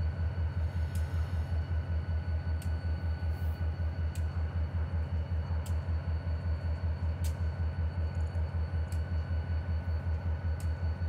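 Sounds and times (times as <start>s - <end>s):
diesel locomotive idling: 0.0s - 11.0s.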